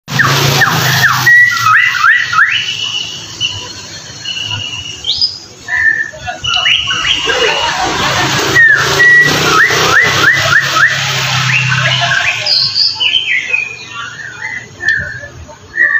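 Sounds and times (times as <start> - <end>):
bird whistling song: 0.9 - 7.4, 8.5 - 15.9.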